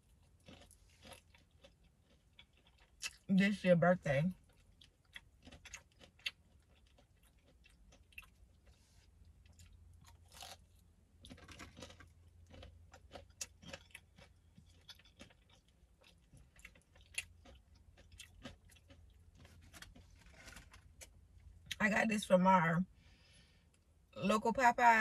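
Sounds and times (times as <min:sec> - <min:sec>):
chewing fried chicken: 0:00.0 - 0:03.4, 0:04.0 - 0:21.8.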